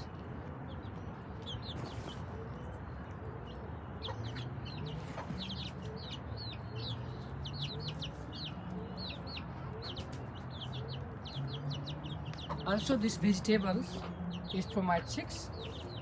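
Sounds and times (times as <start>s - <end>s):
chicks peeping: 0.7s - 16.0s.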